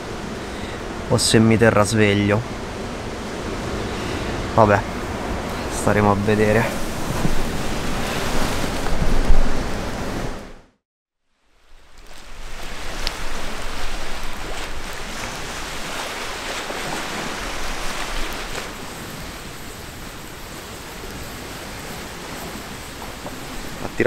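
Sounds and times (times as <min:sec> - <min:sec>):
wind rushing through trees: 0:00.0 - 0:24.0.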